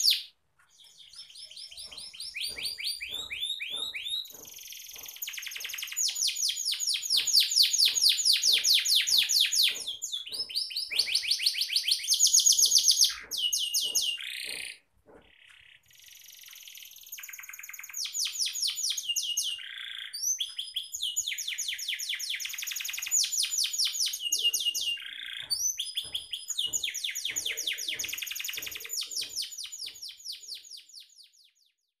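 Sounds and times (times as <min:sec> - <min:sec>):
canary singing trills: 0:00.0 - 0:31.7.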